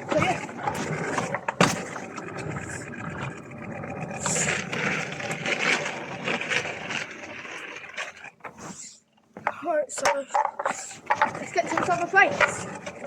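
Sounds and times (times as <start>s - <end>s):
kick scooter rolling on pavement: 0.0s - 13.0s.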